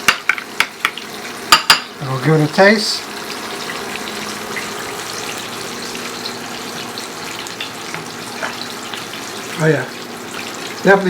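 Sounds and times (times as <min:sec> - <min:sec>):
chicken deep-frying in hot oil: 0:00.0 - 0:11.0.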